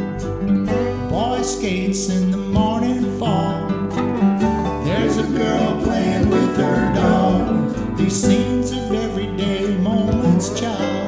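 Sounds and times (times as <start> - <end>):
acoustic-style song: 0.0 - 11.0.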